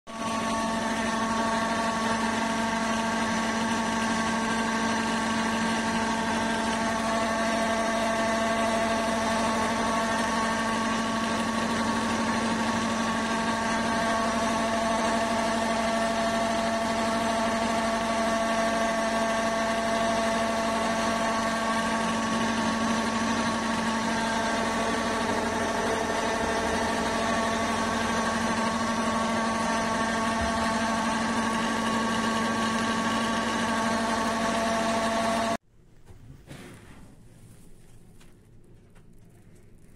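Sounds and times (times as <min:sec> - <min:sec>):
pellet mill humming and whining: 0:00.1 - 0:35.6.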